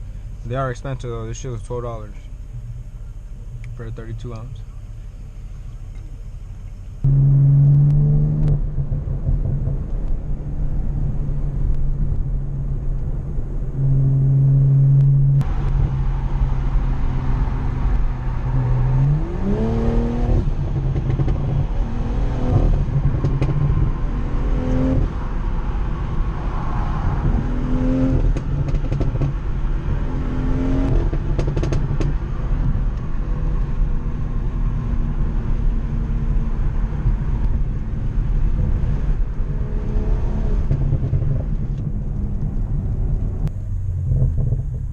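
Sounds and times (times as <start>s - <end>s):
car engine accelerating: 0.0s - 44.9s
tyre and road noise: 0.0s - 44.9s.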